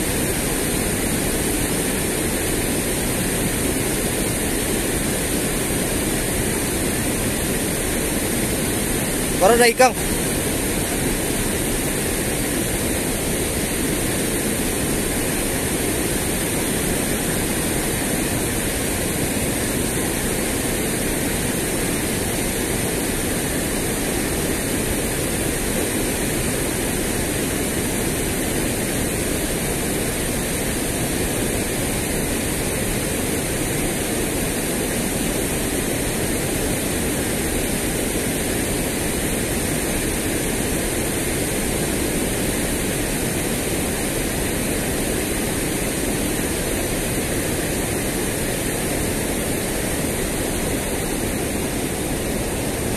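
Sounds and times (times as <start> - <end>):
water rushing over a weir: 0.0 - 52.9.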